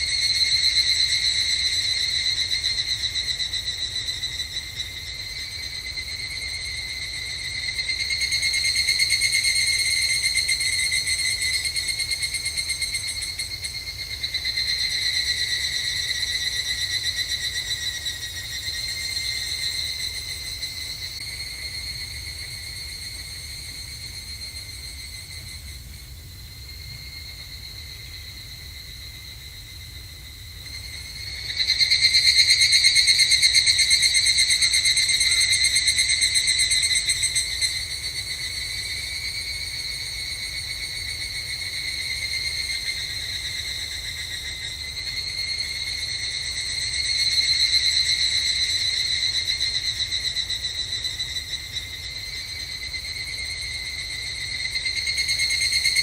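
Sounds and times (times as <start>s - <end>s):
cicadas calling: 0.0s - 56.0s.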